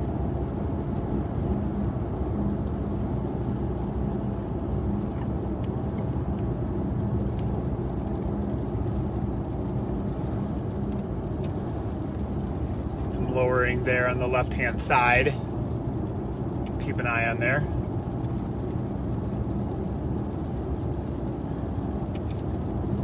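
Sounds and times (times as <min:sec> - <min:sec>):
road and engine hum: 0:00.0 - 0:23.0.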